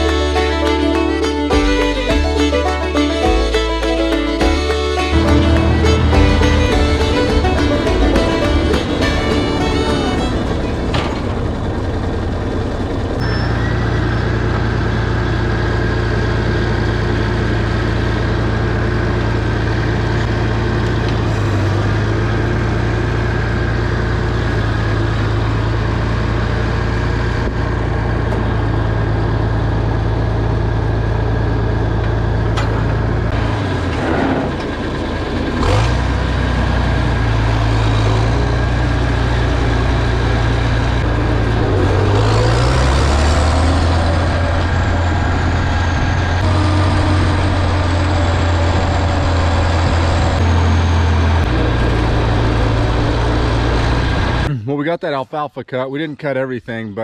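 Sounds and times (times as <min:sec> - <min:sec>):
tractor engine under load: 0:04.4 - 0:54.5.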